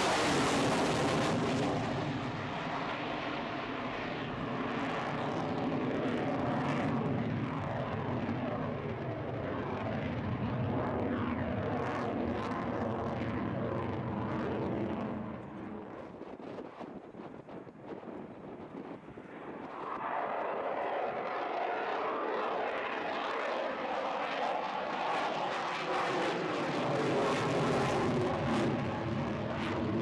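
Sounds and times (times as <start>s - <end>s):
jet flying overhead: 0.0s - 30.0s.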